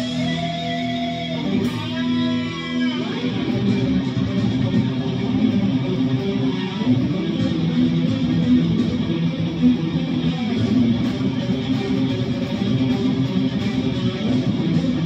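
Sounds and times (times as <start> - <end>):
guitar playing: 0.0 - 15.0.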